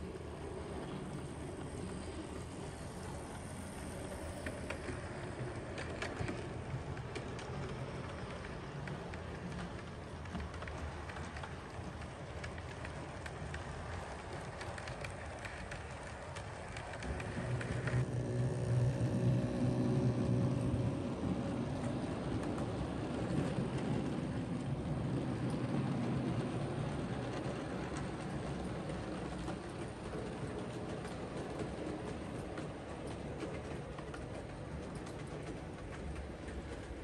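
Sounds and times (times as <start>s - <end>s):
model locomotive hum: 0.0s - 37.0s
model train wheels rumbling on rails: 0.0s - 37.0s.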